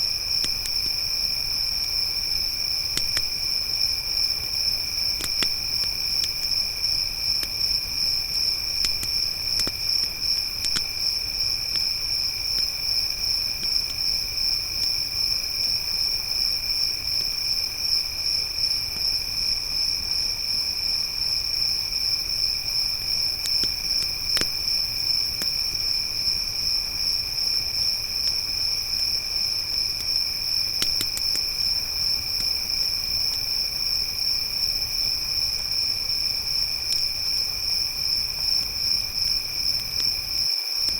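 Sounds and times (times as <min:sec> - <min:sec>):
crickets chirping: 0:00.0 - 0:40.9
campfire crackling pops: 0:00.1 - 0:19.1, 0:22.6 - 0:40.9.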